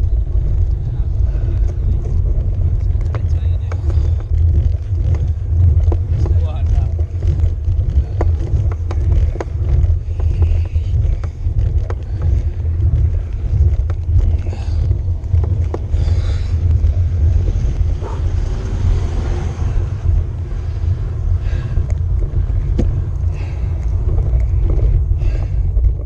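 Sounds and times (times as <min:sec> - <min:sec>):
car passing: 0:00.0 - 0:25.7
bicycle clicks: 0:00.0 - 0:26.0
wind and road rumble: 0:00.0 - 0:26.0.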